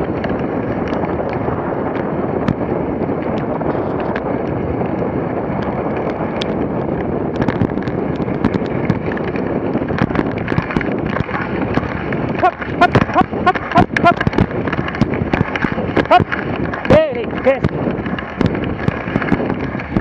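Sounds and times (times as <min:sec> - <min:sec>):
sled clicks and crackles: 0:00.0 - 0:20.0
sled runners rushing on snow: 0:00.0 - 0:20.0
wind on microphone: 0:00.0 - 0:20.0.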